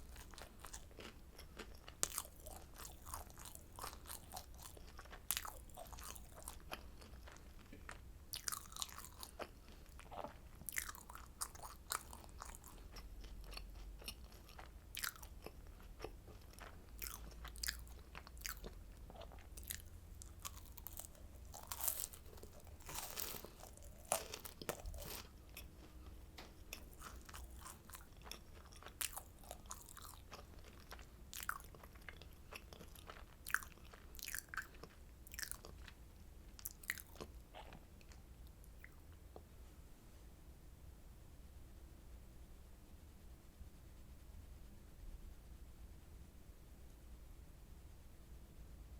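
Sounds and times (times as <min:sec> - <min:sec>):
crunching and chewing candy: 0:00.0 - 0:39.5.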